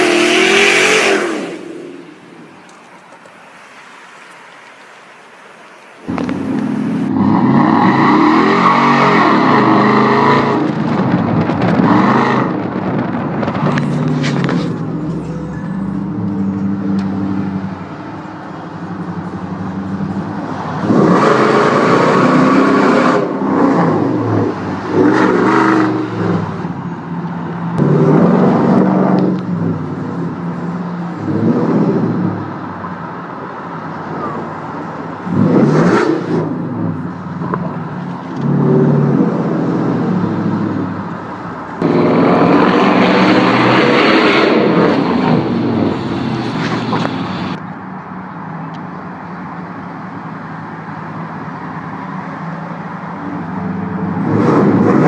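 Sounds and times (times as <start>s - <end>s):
truck engine idling and revving: 0.0s - 2.9s, 6.0s - 55.0s.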